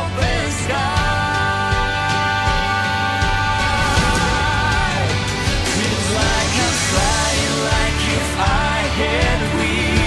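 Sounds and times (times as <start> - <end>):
band accompaniment: 0.0 - 10.0
person singing pop ballad: 0.0 - 10.0.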